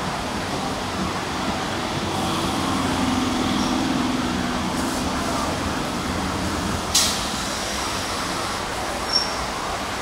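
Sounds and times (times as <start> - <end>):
train rumbling with low hum: 0.0 - 10.0.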